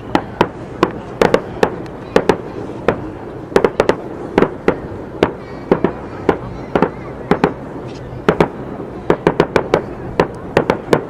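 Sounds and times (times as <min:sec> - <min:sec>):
continuous low rumble: 0:00.0 - 0:11.0
fireworks bursting with sharp bangs: 0:00.0 - 0:11.0.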